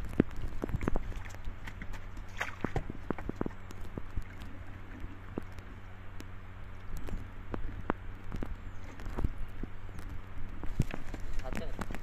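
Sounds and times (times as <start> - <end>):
steady low hum: 0.0 - 12.0
water splashing and sloshing: 0.0 - 12.0.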